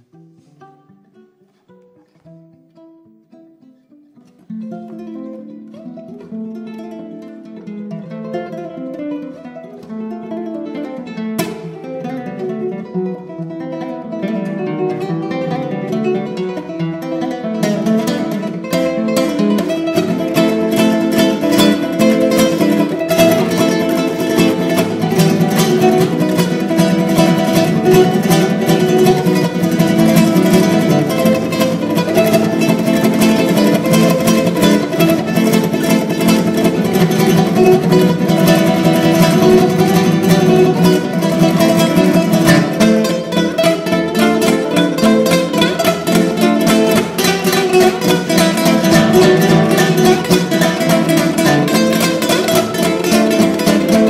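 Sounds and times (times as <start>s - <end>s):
rapid plucked acoustic guitar: 0.0s - 54.0s.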